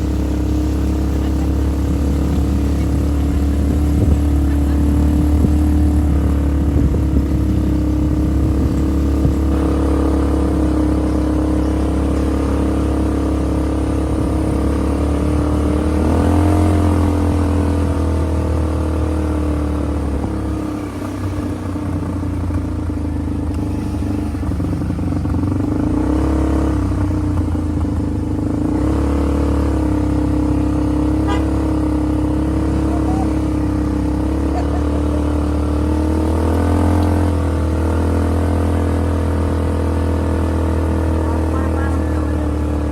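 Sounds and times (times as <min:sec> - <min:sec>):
off-road vehicle engine revving: 0:00.0 - 0:42.9.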